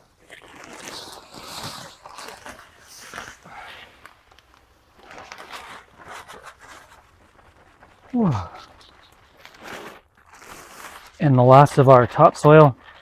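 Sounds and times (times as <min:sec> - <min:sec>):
gritty soil scraping and crunching: 0:00.1 - 0:13.0.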